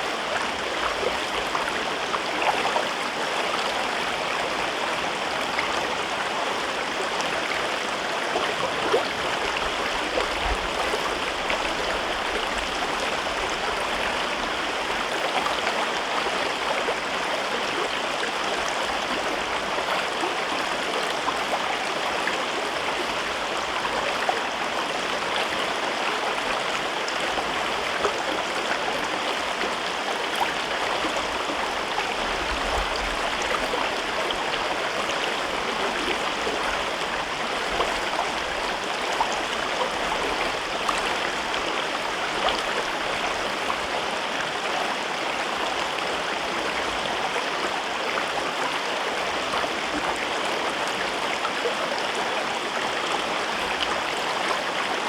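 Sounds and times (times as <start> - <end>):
river babbling over rocks: 0.0 - 55.0.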